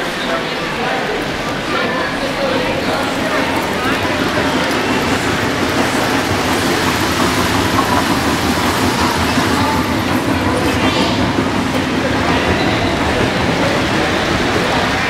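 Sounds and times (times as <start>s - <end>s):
model train wheels rattling: 2.5s - 15.0s.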